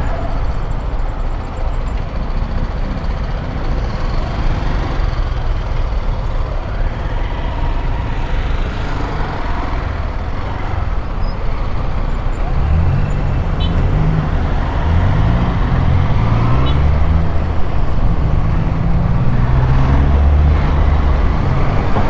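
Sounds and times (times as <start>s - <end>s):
road and traffic noise: 0.0s - 22.0s.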